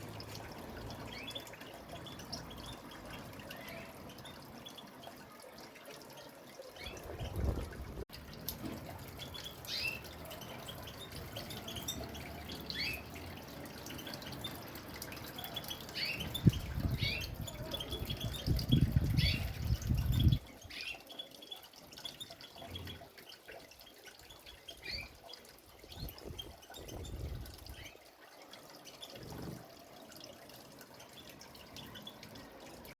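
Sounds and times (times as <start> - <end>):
small birds chirping: 0.0 - 32.9
water dripping and trickling: 0.0 - 33.0.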